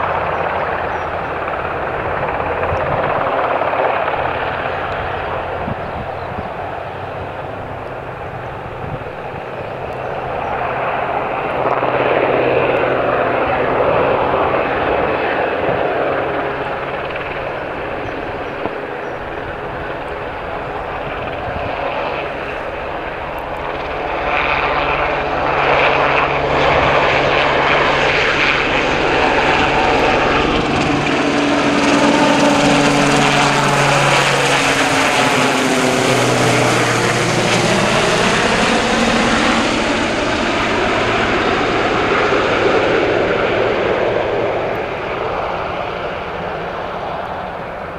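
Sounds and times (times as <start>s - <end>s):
helicopter engine whine: 0.0s - 47.9s
helicopter rotor beat: 0.0s - 47.9s.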